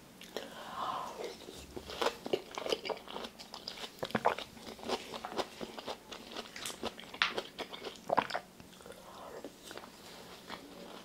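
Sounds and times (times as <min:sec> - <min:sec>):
chewing crunchy fruit: 0:00.2 - 0:11.0.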